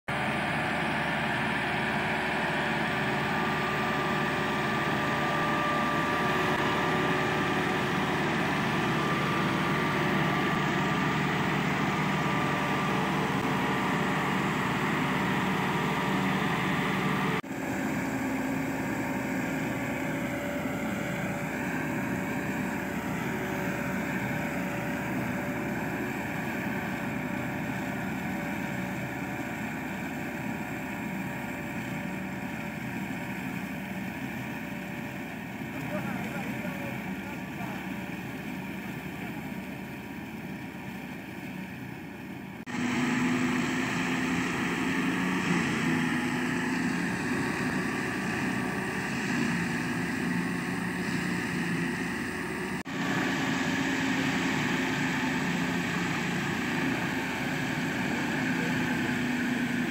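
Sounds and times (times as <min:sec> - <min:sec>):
tractor diesel engine under load: 0:00.0 - 0:59.9
straw chopper running: 0:00.1 - 0:40.8, 0:42.6 - 0:59.9.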